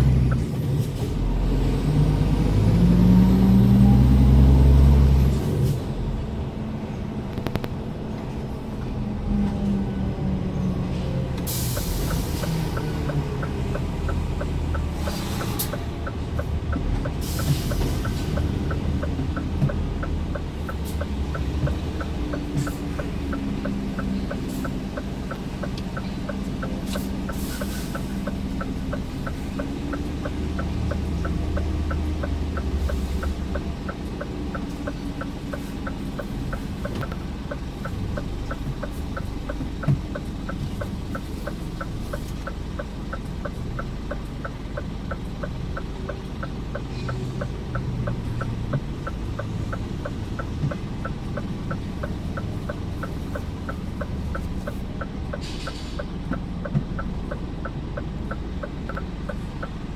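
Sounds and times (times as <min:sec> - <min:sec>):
truck diesel engine driving: 0:00.0 - 0:59.9
steady light ticking: 0:11.4 - 0:59.9.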